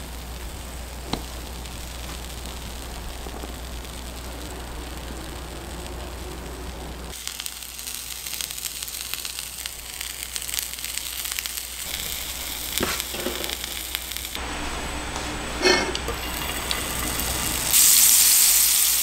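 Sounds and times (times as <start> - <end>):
bread sizzling in butter: 0.0 - 6.2, 7.0 - 19.0.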